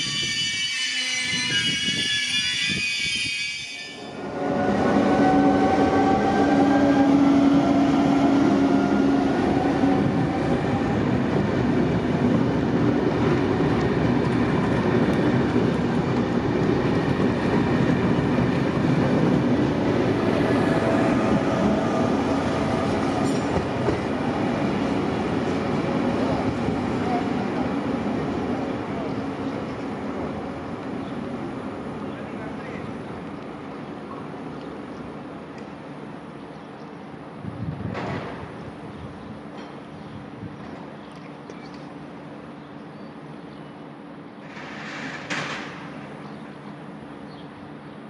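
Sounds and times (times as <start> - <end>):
wheels rumbling on rail: 0.0 - 48.0.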